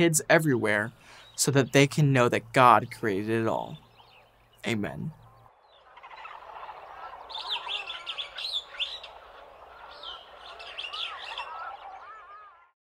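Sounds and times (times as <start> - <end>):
birds chirping and calling: 0.0 - 12.7.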